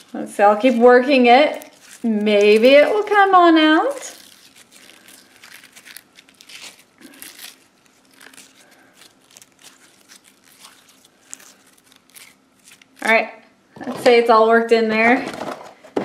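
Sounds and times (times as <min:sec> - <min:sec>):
slime being kneaded by hand: 0:00.0 - 0:13.2.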